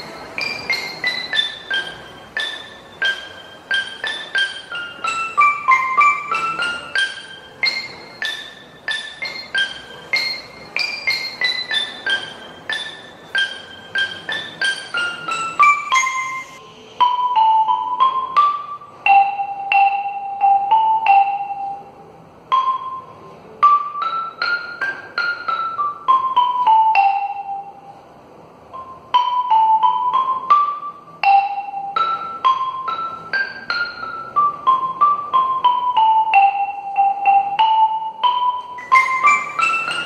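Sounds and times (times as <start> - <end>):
marimba melody: 0.0 - 40.0.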